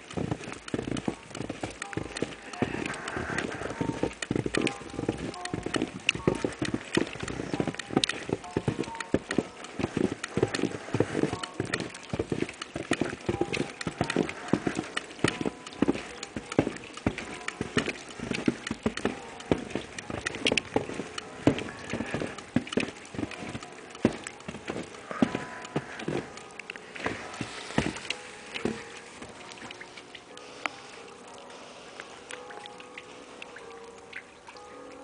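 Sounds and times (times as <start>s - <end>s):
footsteps crunching in snow: 0.0s - 29.6s.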